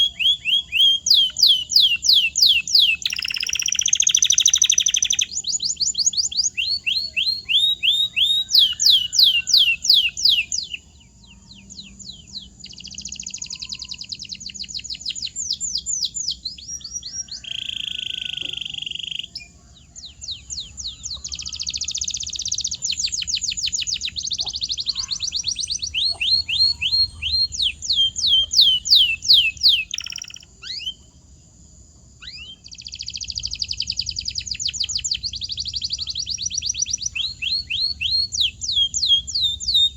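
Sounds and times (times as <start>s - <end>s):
canary singing: 0.0s - 31.4s, 32.1s - 39.9s.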